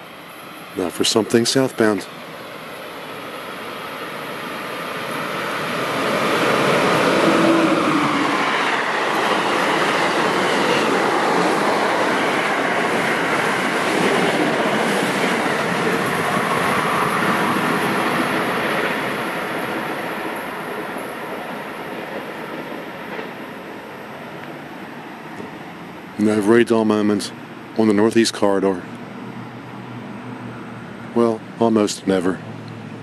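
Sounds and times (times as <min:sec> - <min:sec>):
passing train rushing: 0:00.0 - 0:33.0.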